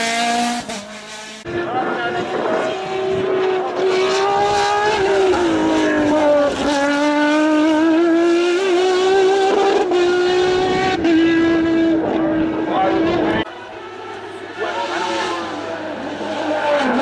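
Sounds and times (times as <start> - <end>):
race car engine high revs: 0.0 - 17.0.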